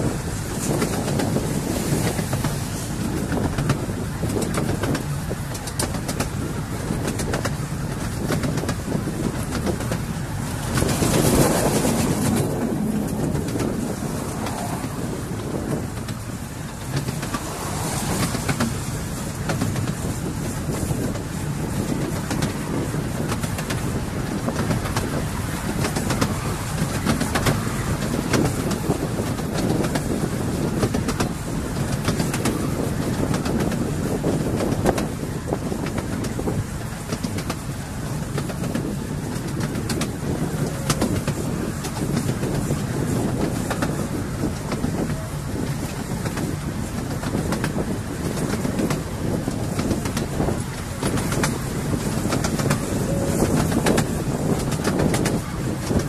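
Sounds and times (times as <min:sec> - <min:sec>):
miniature train rumbling: 0:00.0 - 0:56.0
wheels clicking on rails: 0:00.0 - 0:56.0.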